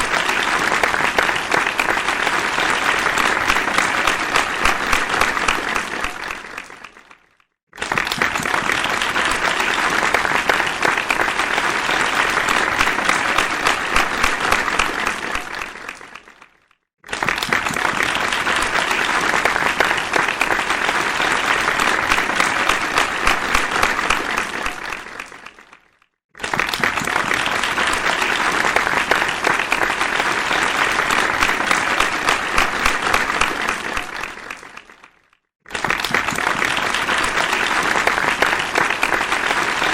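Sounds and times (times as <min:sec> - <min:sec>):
audience applause: 0:00.0 - 0:39.9.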